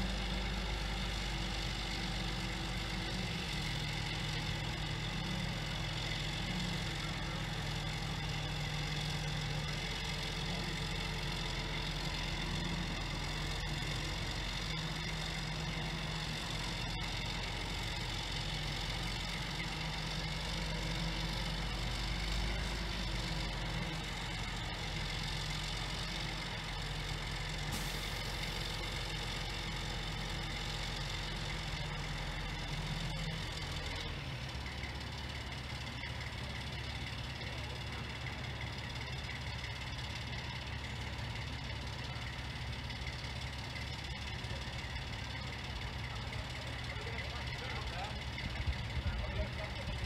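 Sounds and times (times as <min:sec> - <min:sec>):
crane engine running: 0:00.0 - 0:50.0.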